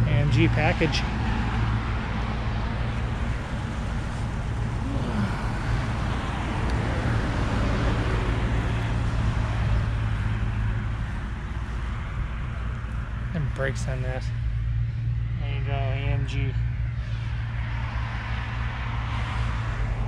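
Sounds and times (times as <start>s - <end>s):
car passing: 0.0s - 20.0s
cars going by on busy road: 0.0s - 20.0s.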